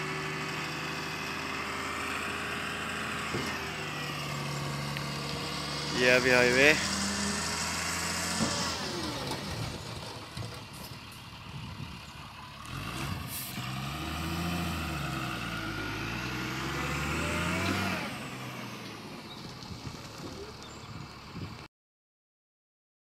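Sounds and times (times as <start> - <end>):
diesel truck engine revving: 0.0 - 21.6.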